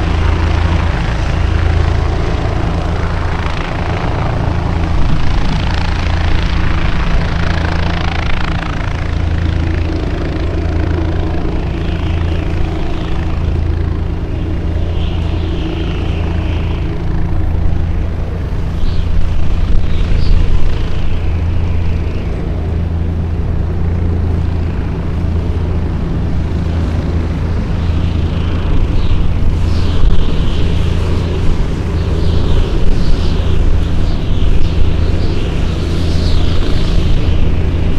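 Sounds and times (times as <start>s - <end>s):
engine droning steadily: 0.0s - 37.9s.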